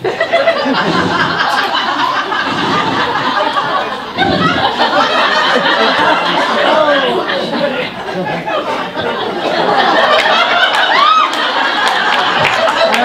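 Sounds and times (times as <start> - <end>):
audience laughing: 0.0 - 13.0.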